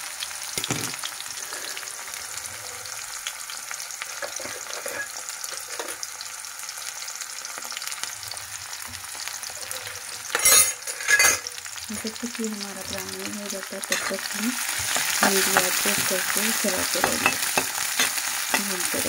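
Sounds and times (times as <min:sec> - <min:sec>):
crackles and pops of frying: 0:00.0 - 0:19.0
onions sizzling in hot oil: 0:00.0 - 0:19.0.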